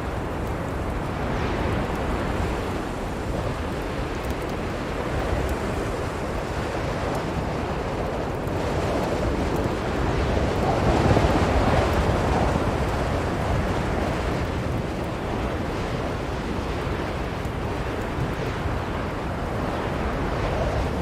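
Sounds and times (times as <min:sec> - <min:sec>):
blizzard wind blowing: 0:00.0 - 0:21.0.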